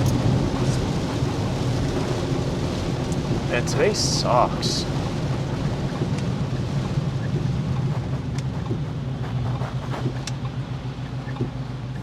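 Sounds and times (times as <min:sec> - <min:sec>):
car engine droning: 0:00.0 - 0:12.0
tyres hissing on wet road: 0:00.0 - 0:12.0.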